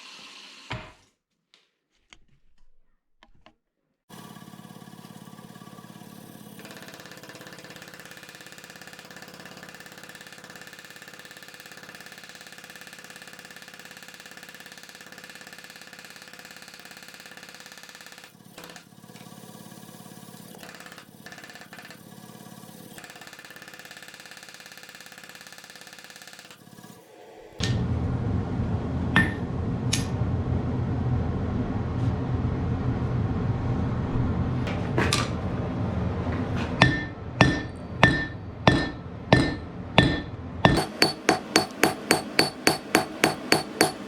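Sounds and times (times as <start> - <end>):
machine motor running: 4.1 - 16.3, 17.2 - 44.0.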